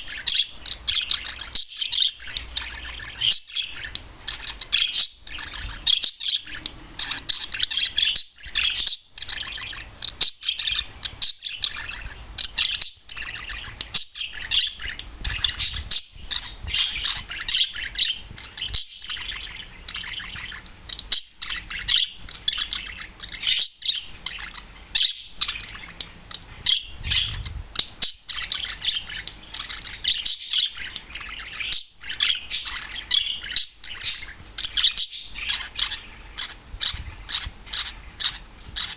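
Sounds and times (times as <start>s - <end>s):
budgerigar chirping and whistling: 0.0s - 38.9s.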